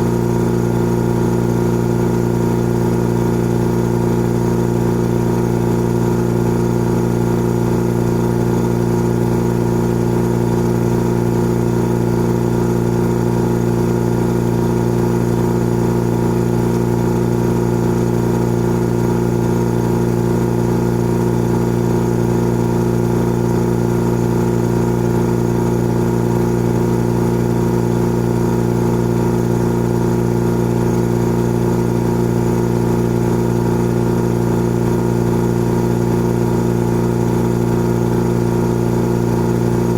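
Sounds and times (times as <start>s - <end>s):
air compressor motor hum: 0.0s - 39.9s.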